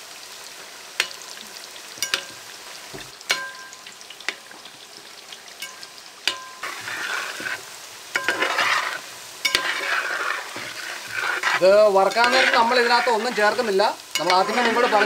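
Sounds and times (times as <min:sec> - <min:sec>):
meat deep-frying in oil: 0:00.0 - 0:15.0.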